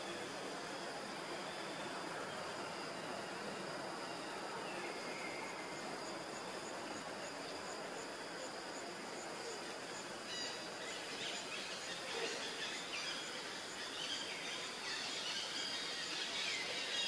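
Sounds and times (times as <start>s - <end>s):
background hiss: 0.0s - 17.0s
insects droning: 0.0s - 17.0s.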